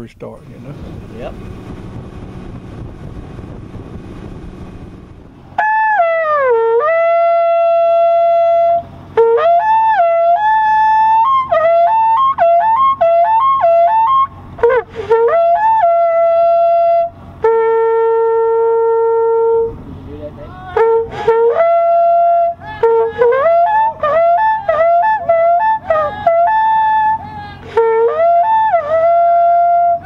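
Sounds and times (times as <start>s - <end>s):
boat motor: 0.0s - 30.0s
wind: 0.0s - 30.0s
hunting horn blasts: 0.8s - 30.0s.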